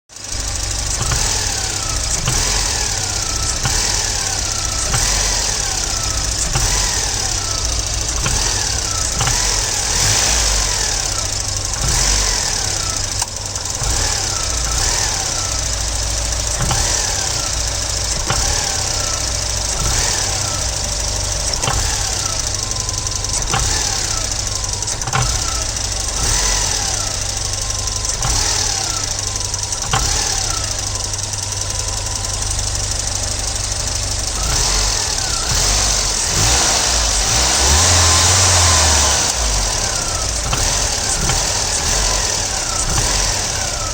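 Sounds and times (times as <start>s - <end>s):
car engine revving: 0.1s - 43.9s
engine knock: 0.1s - 43.9s.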